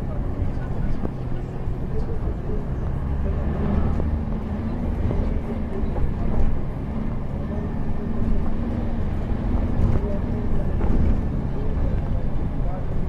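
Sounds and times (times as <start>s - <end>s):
bus engine running: 0.0s - 13.0s
wheels rumbling on rough road: 0.0s - 13.0s.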